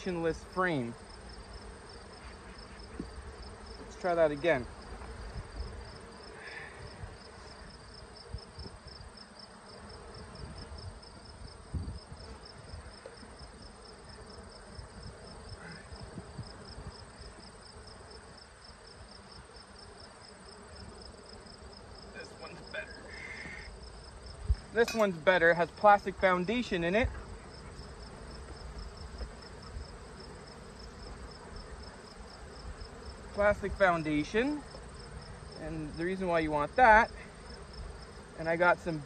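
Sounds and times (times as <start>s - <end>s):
honey bees buzzing: 0.0s - 39.0s.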